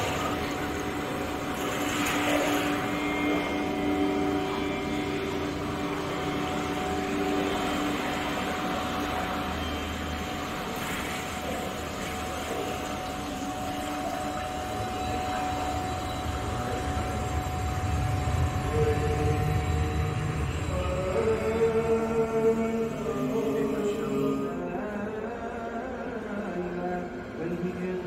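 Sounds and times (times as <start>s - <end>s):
rumbling ambient drone: 0.0s - 28.0s.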